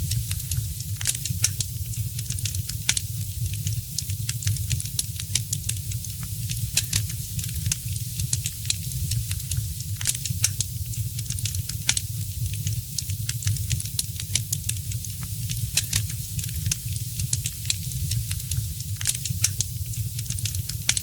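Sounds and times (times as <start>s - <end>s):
low steady rumble: 0.0s - 21.0s
wood fire crackling and popping: 0.0s - 21.0s.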